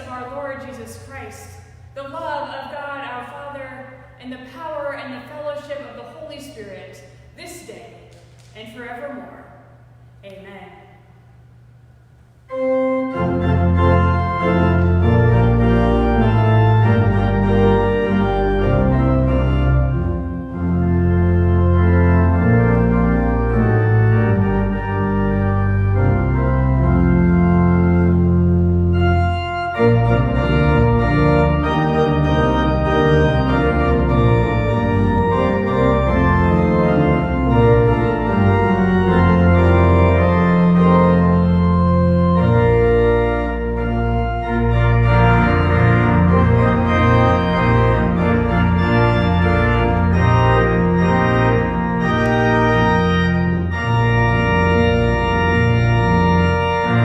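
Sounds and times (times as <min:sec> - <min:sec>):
church organ playing chords: 0:00.0 - 0:03.4, 0:11.9 - 0:57.0.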